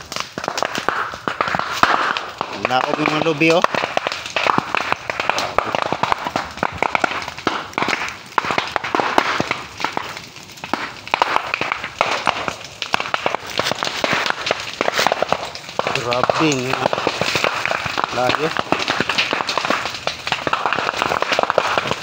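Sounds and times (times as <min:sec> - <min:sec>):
bamboo fire crackling and popping: 0:00.0 - 0:22.0.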